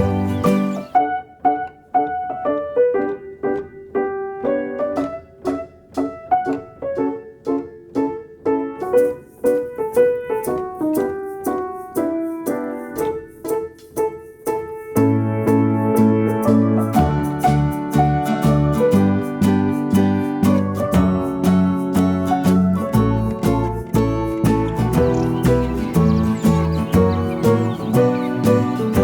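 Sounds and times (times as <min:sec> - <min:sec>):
slow piano melody: 0:00.0 - 0:29.0.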